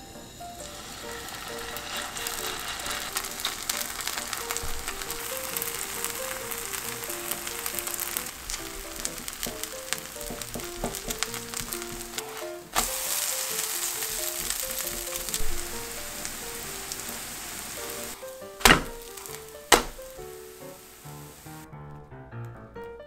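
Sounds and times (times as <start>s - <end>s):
batter sizzling in oil: 0.0s - 21.7s
light background music: 0.0s - 23.0s.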